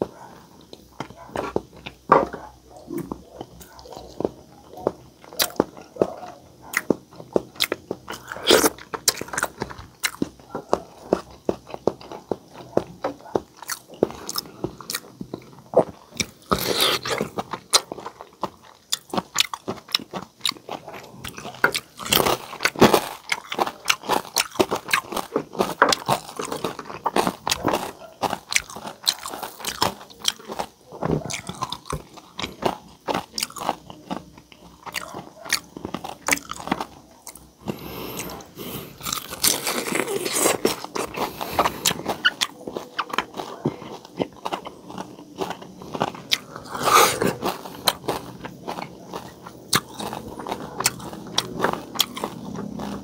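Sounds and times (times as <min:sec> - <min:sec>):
wet chewing and crunching bites: 0:00.4 - 0:53.0.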